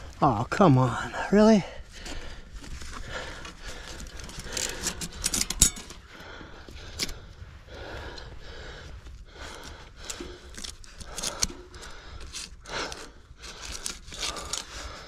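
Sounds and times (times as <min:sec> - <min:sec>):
steady low rumble: 0:00.0 - 0:13.8.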